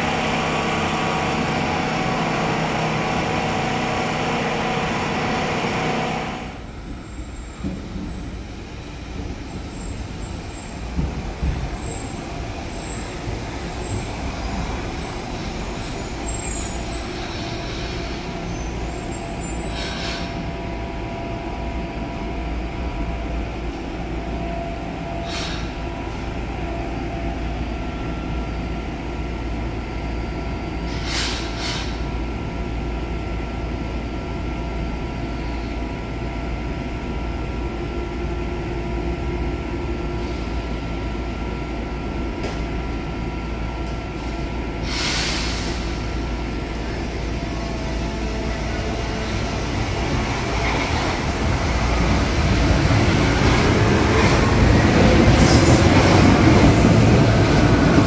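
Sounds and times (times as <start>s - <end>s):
metro train running: 0.0s - 58.0s.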